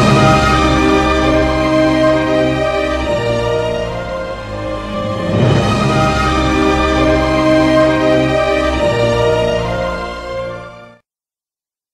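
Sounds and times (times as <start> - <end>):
background music sustained notes: 0.0 - 11.0.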